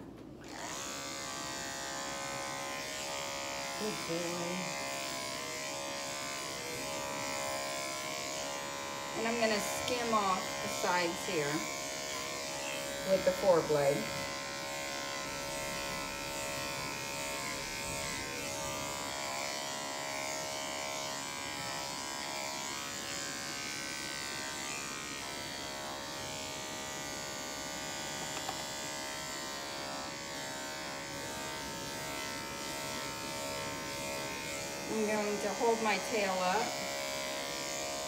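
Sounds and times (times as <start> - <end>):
electric clipper buzzing: 0.2 - 38.0.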